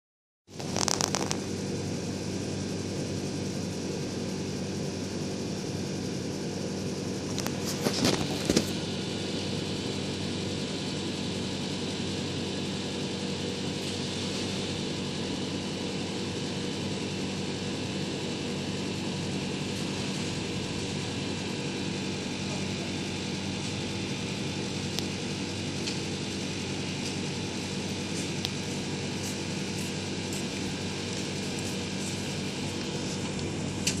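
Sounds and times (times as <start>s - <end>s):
machine humming: 0.5s - 34.0s.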